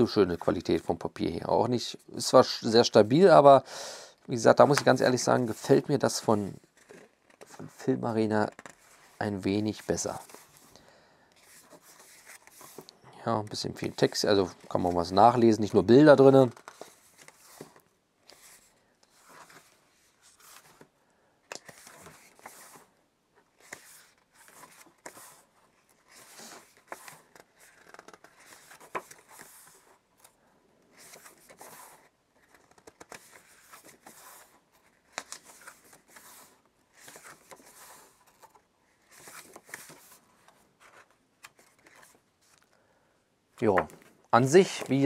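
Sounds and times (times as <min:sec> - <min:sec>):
pages turning: 0:04.3 - 0:10.8, 0:11.4 - 0:20.9, 0:21.5 - 0:42.7, 0:43.6 - 0:45.0.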